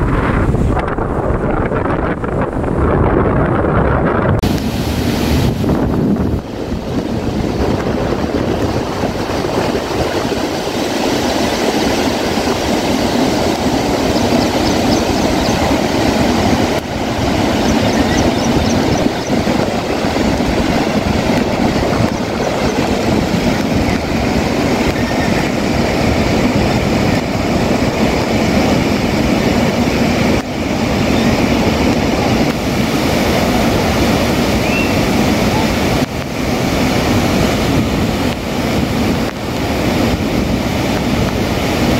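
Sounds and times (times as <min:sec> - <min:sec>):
floodwater rushing over weir: 0:00.0 - 0:41.9.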